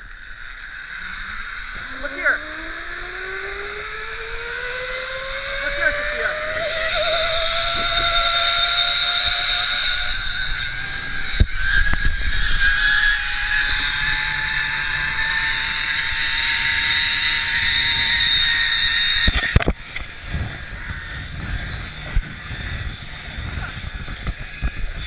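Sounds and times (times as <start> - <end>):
low wind rumble: 0.0 - 25.0
zip-line pulleys whining on cable: 0.0 - 25.0.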